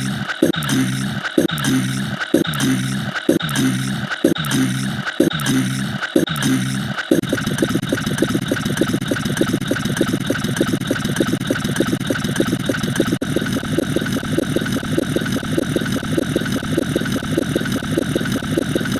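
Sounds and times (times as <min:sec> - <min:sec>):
engine running with rapid pulsing: 0:00.0 - 0:18.9.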